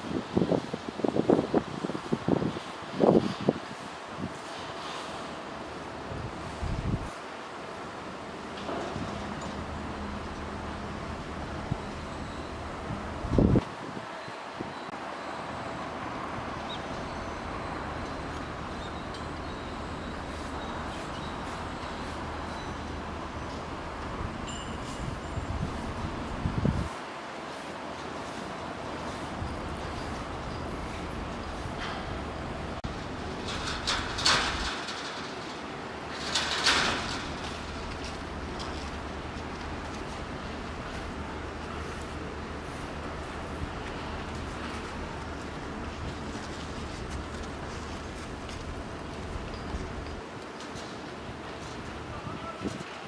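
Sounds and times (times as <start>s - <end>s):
outdoor background noise: 0.0s - 53.0s.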